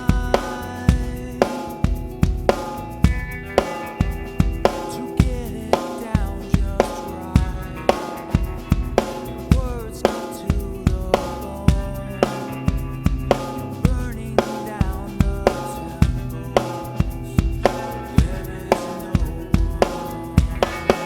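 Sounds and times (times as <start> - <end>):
drum kit playing rock groove: 0.0 - 21.0
guitars with bending notes: 0.0 - 21.0.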